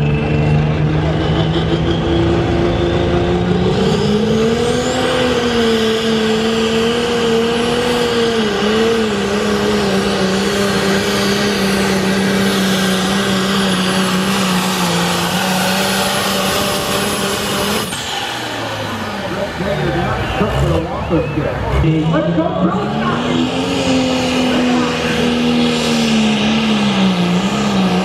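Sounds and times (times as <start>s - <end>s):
diesel tractor engine at full throttle: 0.0s - 28.0s.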